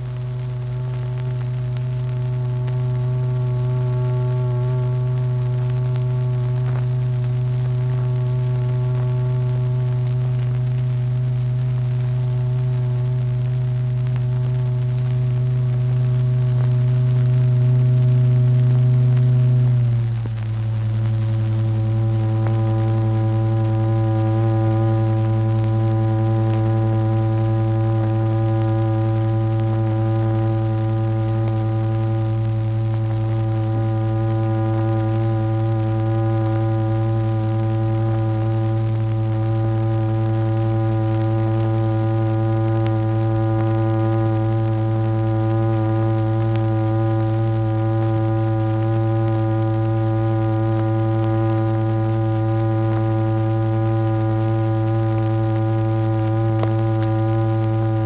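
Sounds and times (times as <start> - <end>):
steady buzzy low drone: 0.0 - 58.0.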